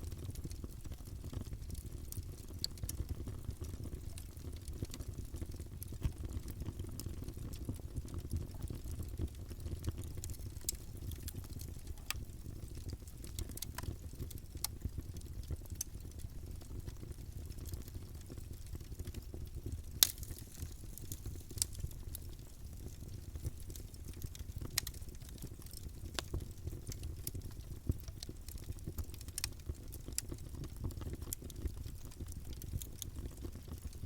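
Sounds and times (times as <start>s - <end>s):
crackles and pops of burning wood: 0.0s - 34.0s
low rumble of flames: 0.0s - 34.0s.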